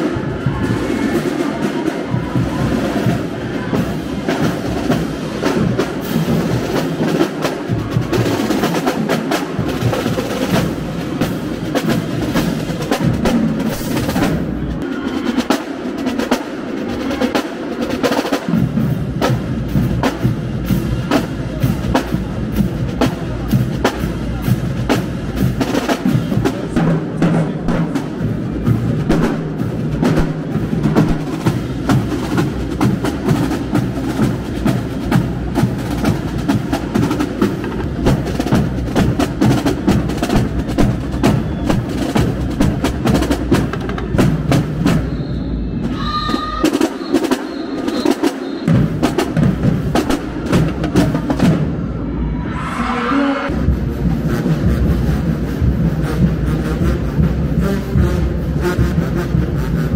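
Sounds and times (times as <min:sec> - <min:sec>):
snare drums: 0:00.0 - 0:52.0, 0:53.5 - 0:59.9.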